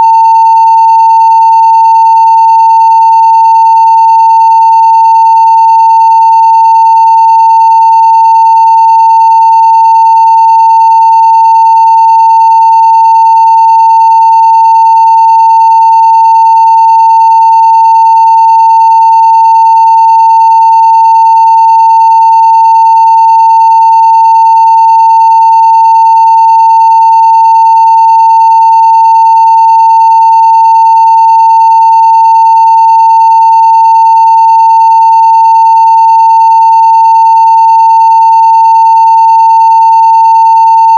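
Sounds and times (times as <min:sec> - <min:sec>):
loud sine-wave test tone: 0:00.0 - 0:40.9.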